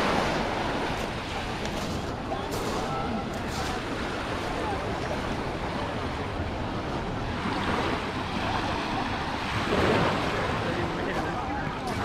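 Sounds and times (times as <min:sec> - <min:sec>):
faint voices of bathers: 0:00.5 - 0:12.0.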